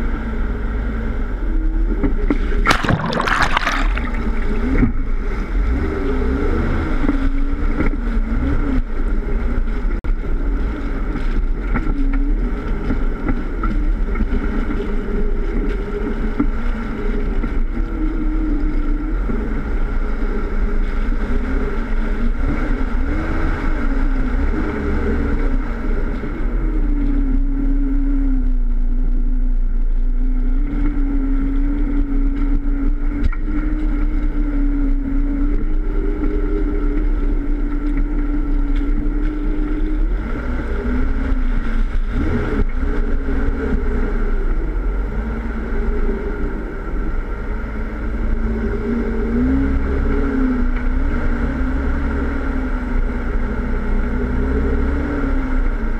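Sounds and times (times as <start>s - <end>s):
car engine droning: 0.0s - 55.9s
heavy low rumble: 0.0s - 55.9s.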